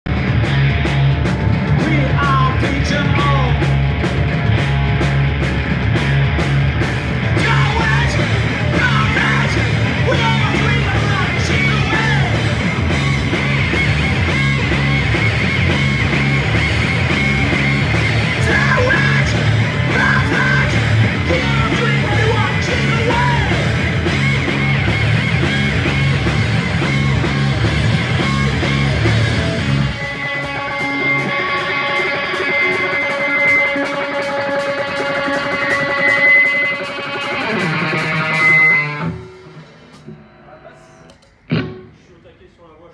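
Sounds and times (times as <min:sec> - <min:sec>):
bass guitar: 0:00.0 - 0:42.3
drums: 0:00.0 - 0:42.9
electric guitar: 0:00.1 - 0:42.0.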